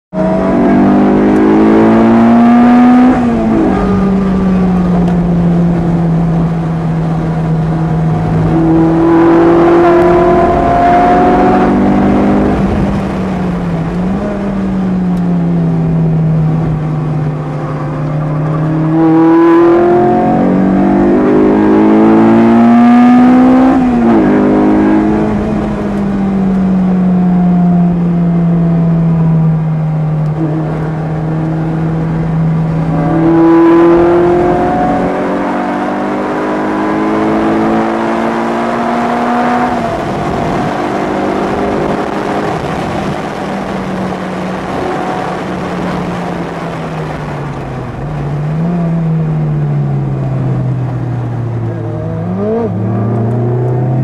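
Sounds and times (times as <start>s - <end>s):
car engine revving: 0.1s - 54.0s
wind and tyre noise: 0.1s - 54.0s.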